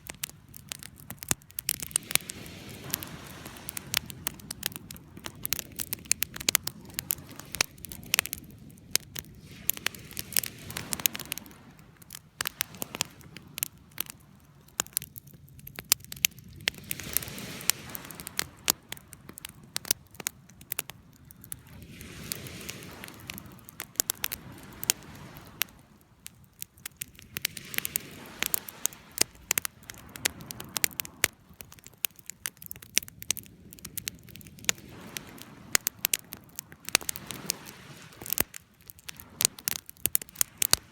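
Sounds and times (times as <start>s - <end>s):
soft hiss of burning: 0.0s - 40.9s
wood fire crackling and popping: 0.0s - 40.9s.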